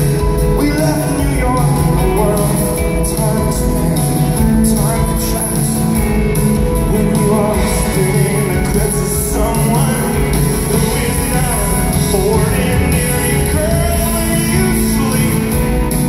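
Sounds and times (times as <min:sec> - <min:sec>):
drums steady beat: 0:00.0 - 0:16.0
electric guitars: 0:00.0 - 0:16.0
keyboards: 0:00.0 - 0:16.0.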